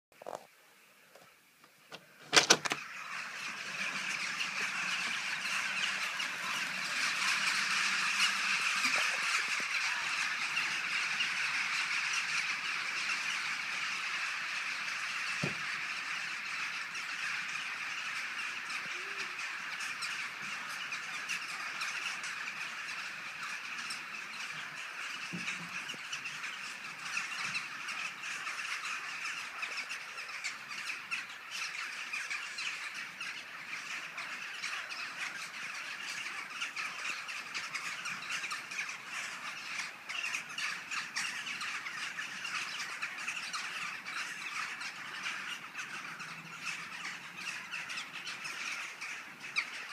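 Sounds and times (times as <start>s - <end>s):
rooks cawing: 2.8s - 49.9s.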